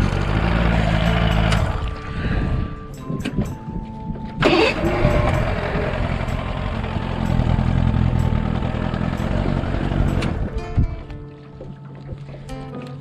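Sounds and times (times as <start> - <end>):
boat motor running: 0.0 - 2.8, 3.5 - 12.8.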